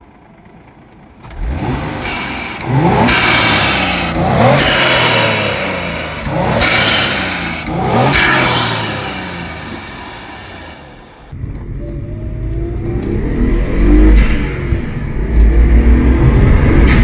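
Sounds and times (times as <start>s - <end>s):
car engine revving hard: 1.3s - 11.5s, 12.1s - 17.0s.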